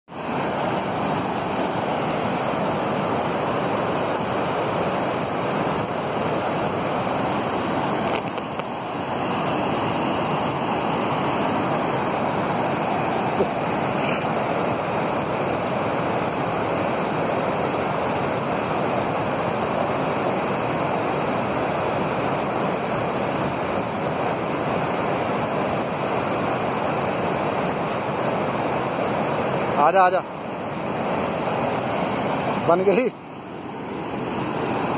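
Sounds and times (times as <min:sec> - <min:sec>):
river rushing over rocks: 0:00.1 - 0:34.9.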